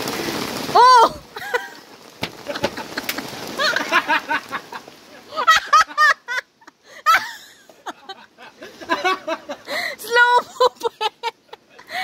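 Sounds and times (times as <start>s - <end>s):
excited voices calling and laughing: 0.8s - 12.0s.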